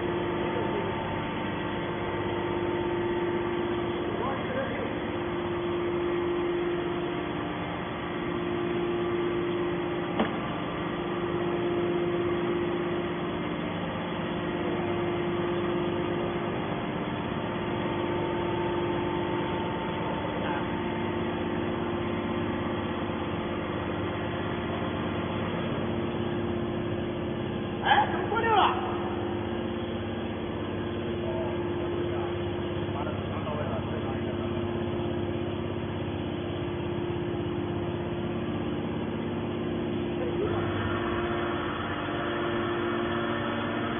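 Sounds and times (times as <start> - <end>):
electric motor and pump humming: 0.0 - 43.9.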